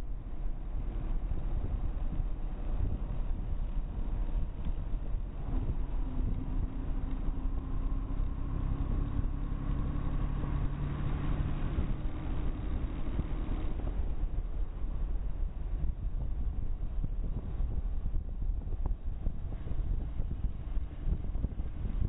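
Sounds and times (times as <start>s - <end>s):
wind rumble on microphone: 0.0s - 22.0s
motorcycle engine cruising: 1.0s - 22.0s.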